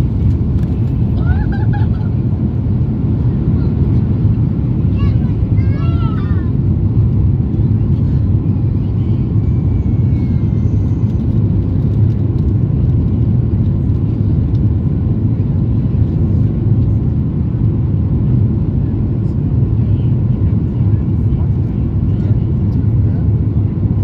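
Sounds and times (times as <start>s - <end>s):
jet engine rumble in cabin: 0.0s - 24.0s.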